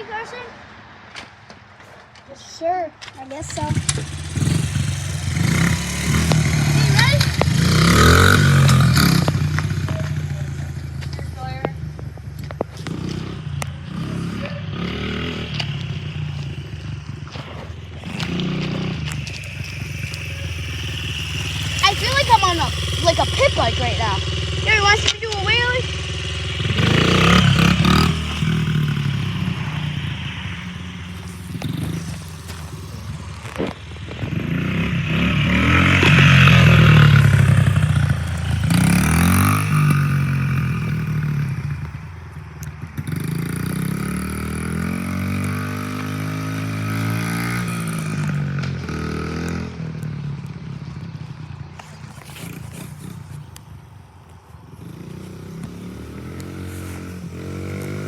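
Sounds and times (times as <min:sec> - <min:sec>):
dirt bike engine revving: 0:03.2 - 0:53.6, 0:54.7 - 0:58.0.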